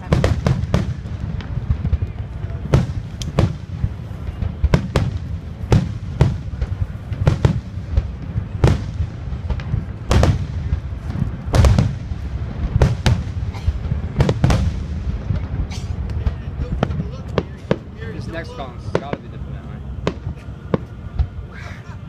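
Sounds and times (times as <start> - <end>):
fireworks bursting with bangs: 0.0 - 22.0.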